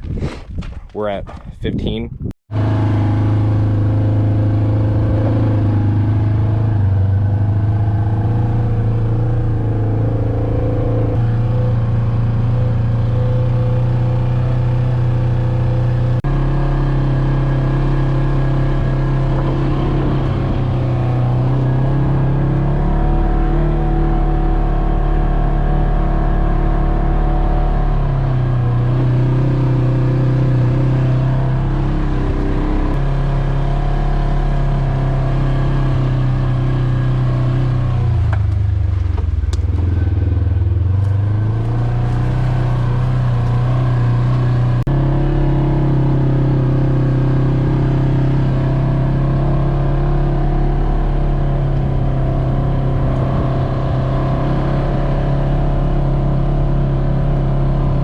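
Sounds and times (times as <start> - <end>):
engine running: 2.5 - 58.0.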